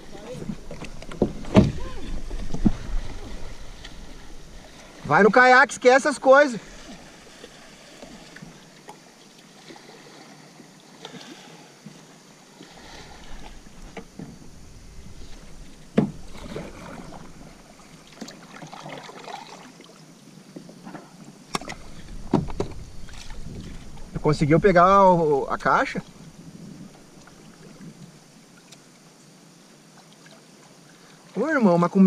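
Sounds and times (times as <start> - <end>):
paddle splashing in water: 0.0 - 29.1.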